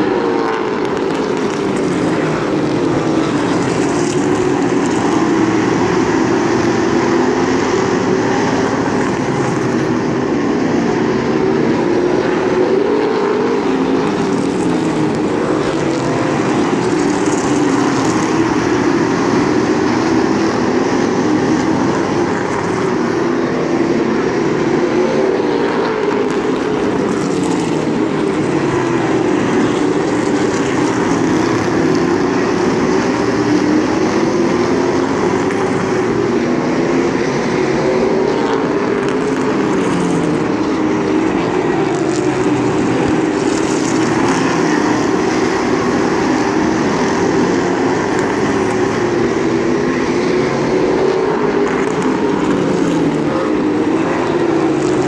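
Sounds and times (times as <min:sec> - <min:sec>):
race car engines running hard: 0:00.0 - 0:55.0.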